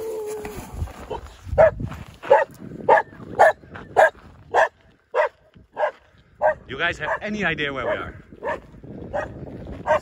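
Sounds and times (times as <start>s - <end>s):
dog barking: 1.6s - 10.0s.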